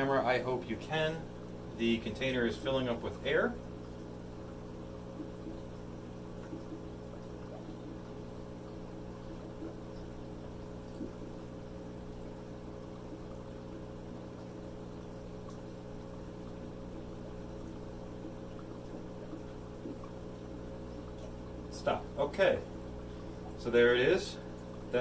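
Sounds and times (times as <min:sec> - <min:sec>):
air pump humming: 0:00.0 - 0:25.0
air bubbling through water: 0:03.6 - 0:25.0.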